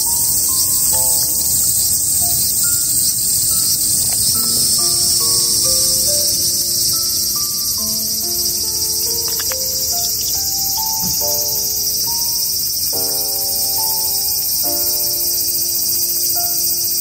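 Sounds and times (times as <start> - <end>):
cicadas buzzing: 0.0 - 17.0
soft music of single notes: 0.0 - 17.0.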